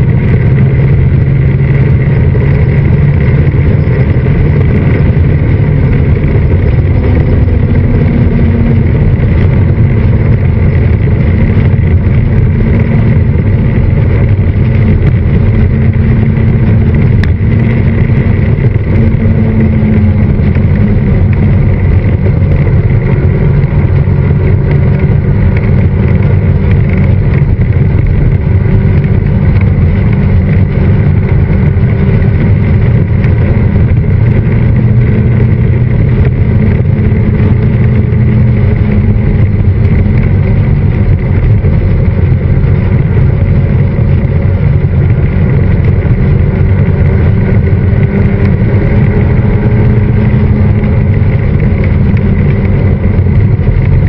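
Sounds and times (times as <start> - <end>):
motorcycle engine cruising: 0.0 - 54.0
wind and road noise rushing: 0.0 - 54.0.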